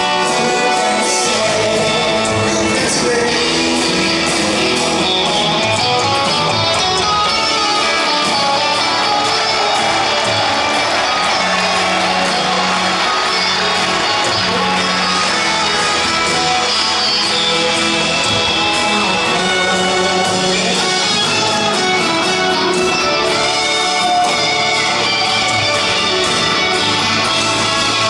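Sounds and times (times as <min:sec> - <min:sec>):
distant live rock ballad: 0:00.0 - 0:28.0.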